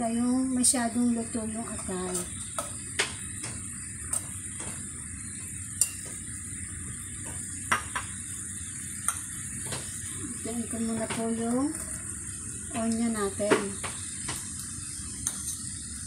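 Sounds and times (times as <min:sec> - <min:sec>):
sauce sizzling in pan: 0:00.0 - 0:16.0.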